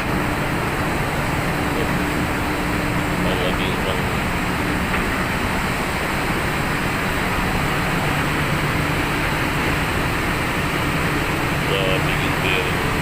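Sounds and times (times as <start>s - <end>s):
low hum: 0.0s - 13.0s
machinery roaring: 0.0s - 13.0s.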